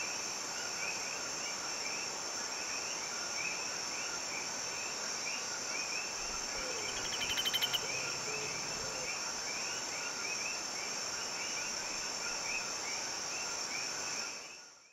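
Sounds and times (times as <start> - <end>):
insects buzzing: 0.0 - 14.8.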